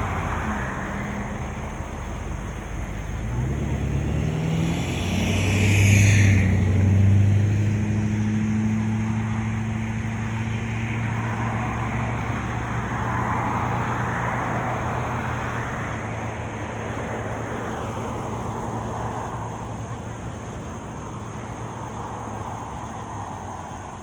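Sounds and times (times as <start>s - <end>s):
passing car tyres rushing: 0.0s - 24.0s
vehicle engine humming: 0.0s - 24.0s.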